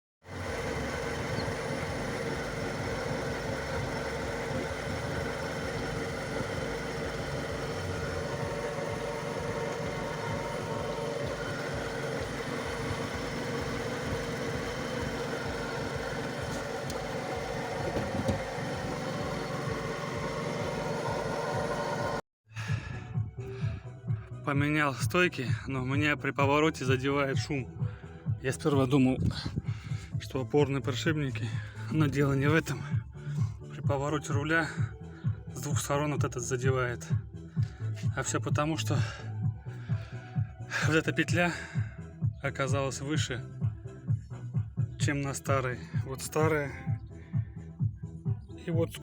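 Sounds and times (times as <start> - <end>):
car engine idling: 0.2 - 24.4, 27.8 - 49.0.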